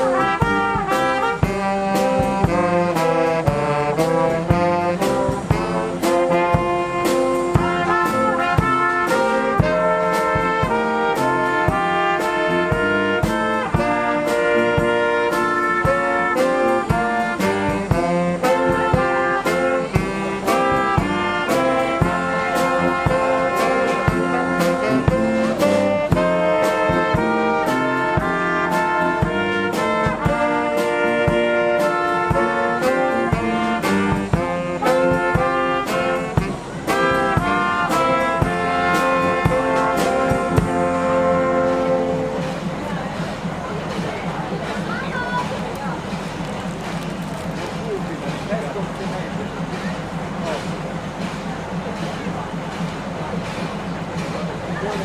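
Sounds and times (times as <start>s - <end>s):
brass instruments playing: 0.0s - 55.0s
steady drum beat: 0.0s - 55.0s.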